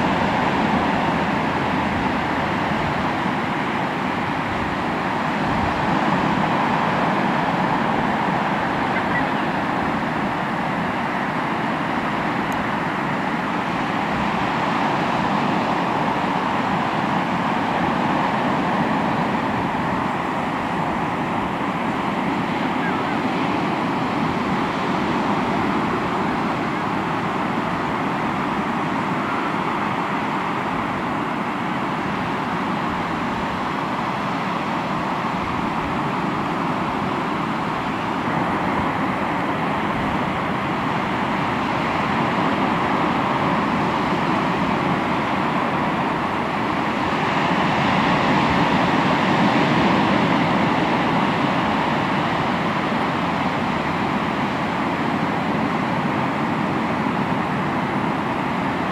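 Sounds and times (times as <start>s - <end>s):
sea waves washing ashore: 0.0s - 58.9s.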